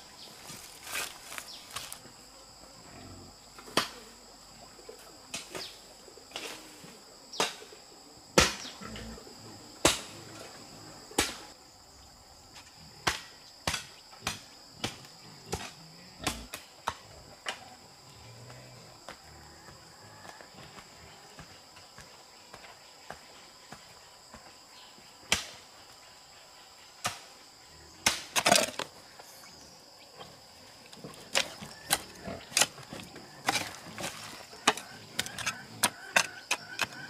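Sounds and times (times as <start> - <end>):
high drone of insects: 0.0 - 37.0.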